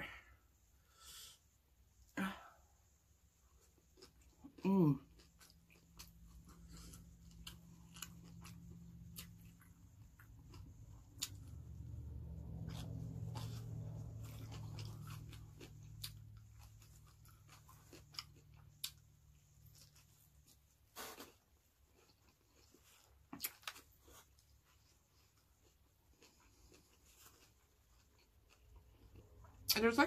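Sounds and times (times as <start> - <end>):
low steady hum: 0.0 - 30.0
person chewing noodles: 3.1 - 29.7.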